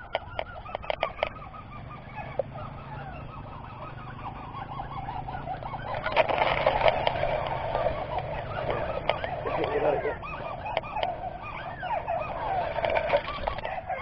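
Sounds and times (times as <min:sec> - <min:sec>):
crake calls: 0:00.0 - 0:14.0.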